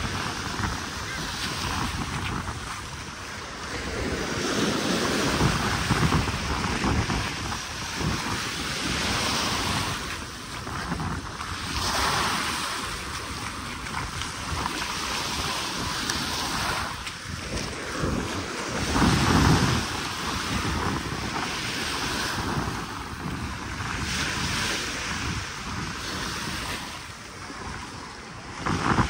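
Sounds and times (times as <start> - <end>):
waves breaking on sandy beach: 0.0 - 29.0
wind rumbling on microphone: 0.0 - 29.0.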